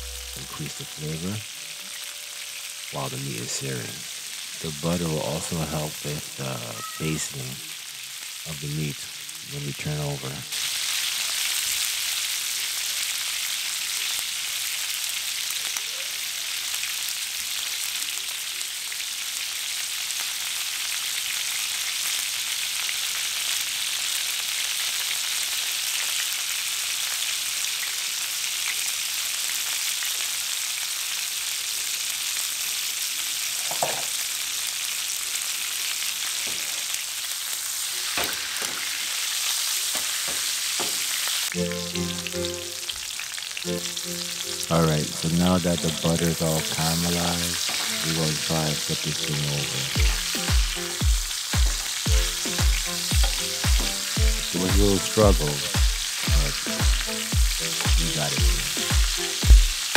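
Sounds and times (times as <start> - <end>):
meat sizzling in a skillet: 0.0 - 59.9.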